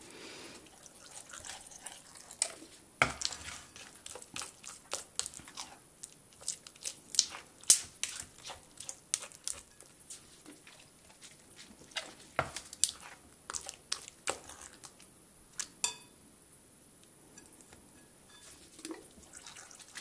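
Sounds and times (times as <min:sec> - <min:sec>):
spoon stirring sticky slime: 0:00.6 - 0:16.1, 0:17.4 - 0:20.0.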